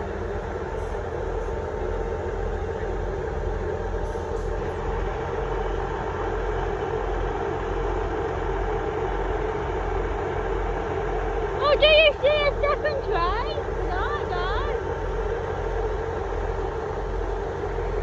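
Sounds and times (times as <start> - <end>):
diesel train engines idling: 0.0 - 18.0.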